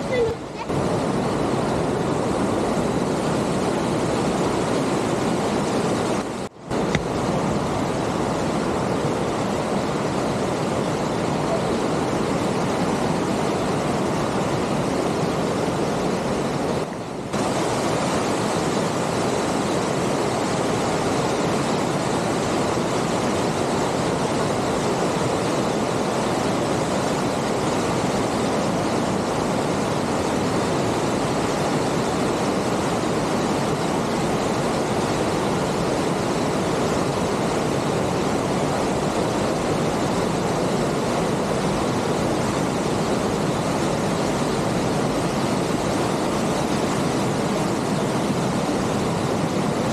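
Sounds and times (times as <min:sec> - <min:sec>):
creek rushing over rocks: 0:00.0 - 0:49.9.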